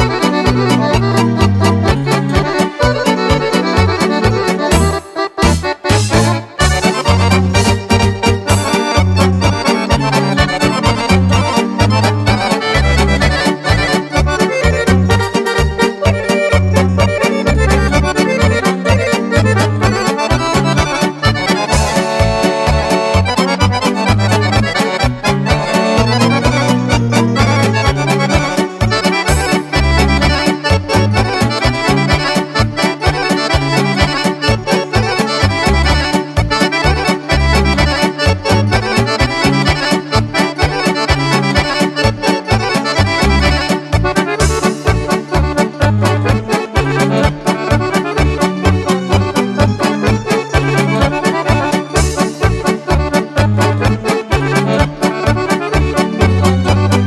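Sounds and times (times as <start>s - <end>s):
fast accordion dance tune: 0.0s - 57.0s
pulsing bass line: 0.0s - 57.0s
quick steady beat: 0.0s - 57.0s.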